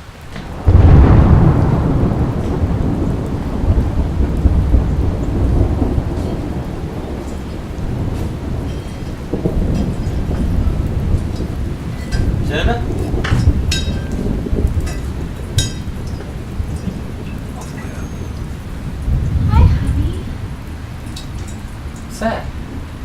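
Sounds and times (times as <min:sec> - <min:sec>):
steady rain: 0:00.0 - 0:23.0
thunder rumbling: 0:00.0 - 0:23.0.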